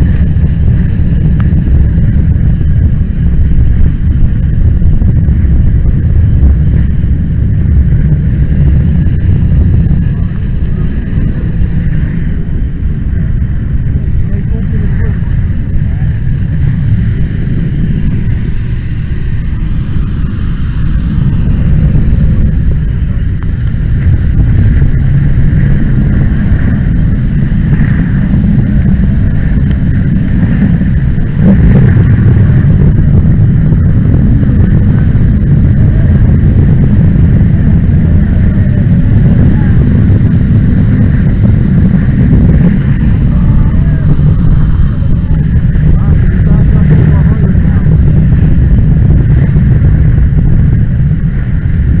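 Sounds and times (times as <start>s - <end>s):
loud low rumble of fire: 0.0s - 52.0s.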